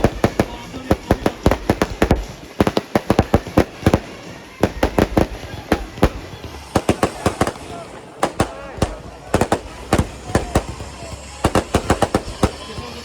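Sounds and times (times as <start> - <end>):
firecracker bangs: 0.0 - 13.0.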